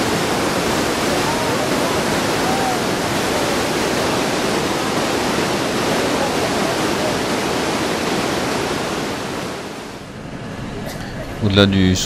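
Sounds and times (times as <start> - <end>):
rushing whitewater rapids: 0.0 - 10.1.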